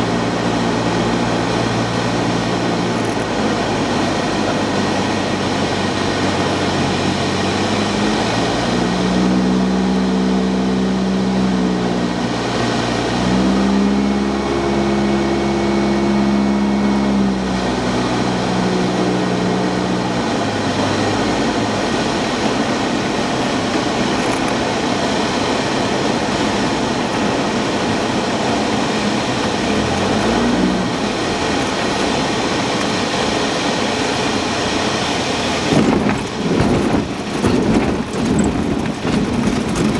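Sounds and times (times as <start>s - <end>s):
airplane engine and propeller drone: 0.0s - 39.9s
wind noise: 0.0s - 39.9s.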